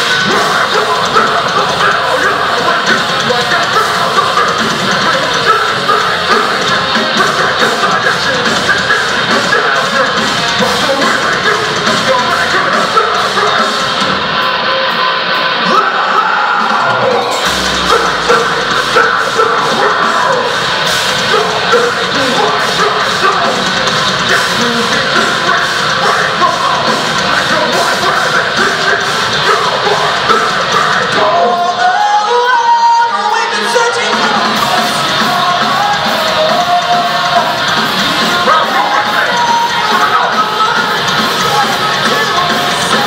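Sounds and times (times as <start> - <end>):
melodic guitar line: 0.0 - 43.0
metal band playing loud: 0.0 - 43.0
screamed lead vocal: 0.0 - 43.0.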